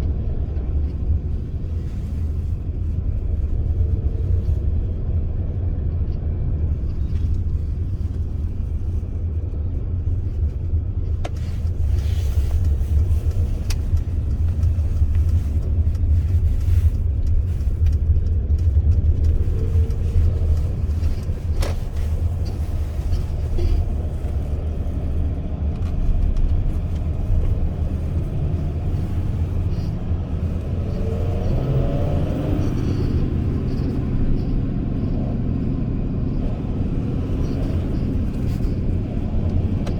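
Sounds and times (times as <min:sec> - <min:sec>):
road noise: 0:00.0 - 0:39.9
van engine rumble: 0:00.0 - 0:39.9.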